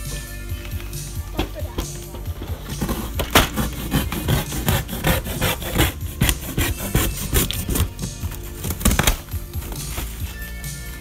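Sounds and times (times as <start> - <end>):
background music: 0.0 - 11.0
cardboard scraping: 1.3 - 11.0.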